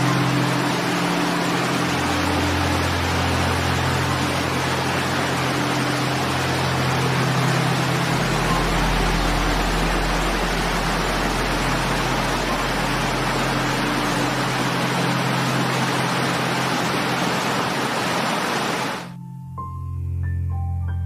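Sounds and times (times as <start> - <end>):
river rapids roaring: 0.0 - 19.1
low music drone: 0.0 - 21.0.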